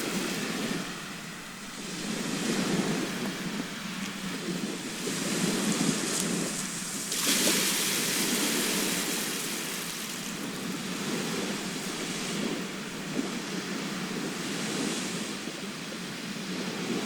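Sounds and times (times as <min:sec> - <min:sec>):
low rumble of surf: 0:00.0 - 0:17.0
sea waves washing on shore: 0:00.0 - 0:17.0.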